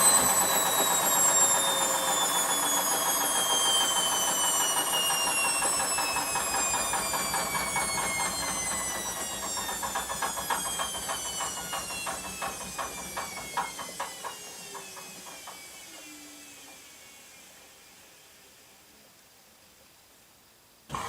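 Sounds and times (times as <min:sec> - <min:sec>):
washing machine motor whine: 0:00.0 - 0:18.7.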